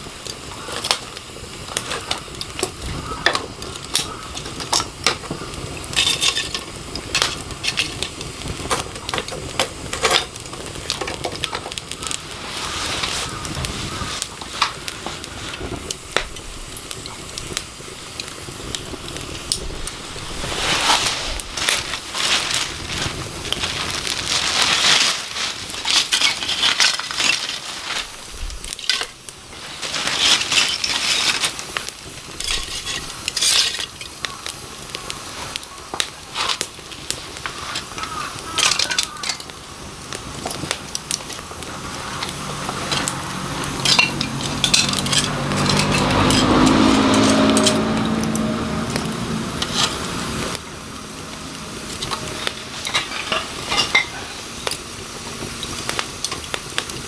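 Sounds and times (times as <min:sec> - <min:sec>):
wood fire crackling and hissing: 0:00.0 - 0:57.0.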